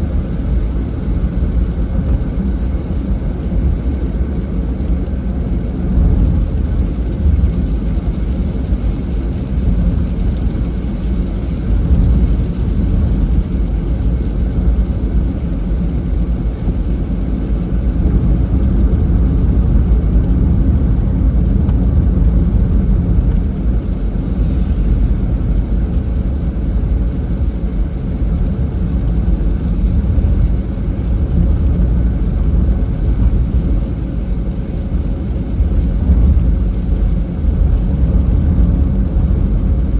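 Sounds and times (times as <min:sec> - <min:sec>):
car driving in rain: 0:00.0 - 0:39.9.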